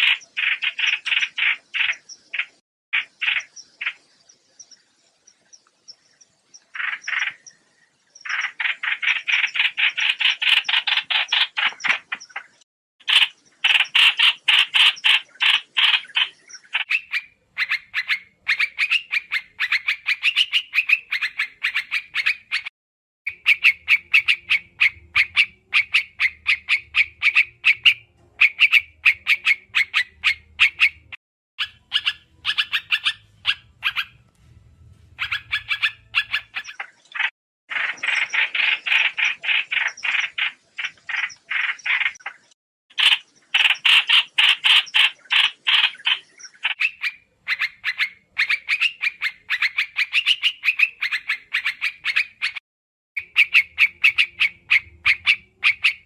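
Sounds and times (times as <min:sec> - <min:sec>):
bird calls harsh chattering: 0:00.0 - 0:07.6, 0:08.2 - 0:22.7, 0:23.3 - 0:34.3, 0:35.0 - 0:52.6, 0:53.2 - 0:56.0.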